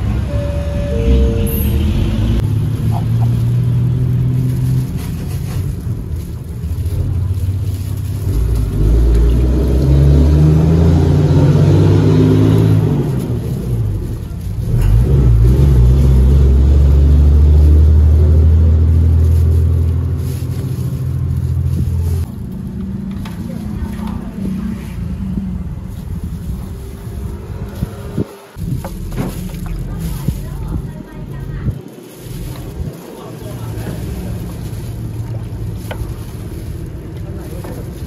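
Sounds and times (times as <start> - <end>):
vehicle engines rumbling: 0.0 - 38.0.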